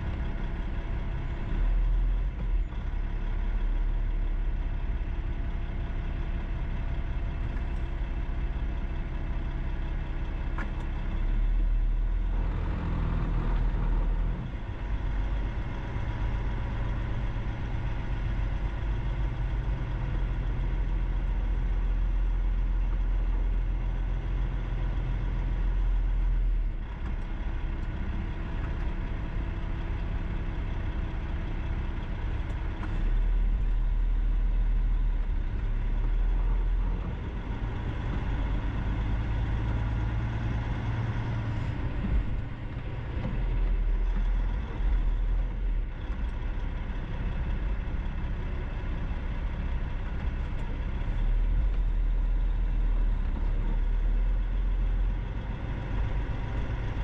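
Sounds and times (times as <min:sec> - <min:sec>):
vehicle road noise rumble: 0:00.0 - 0:57.0.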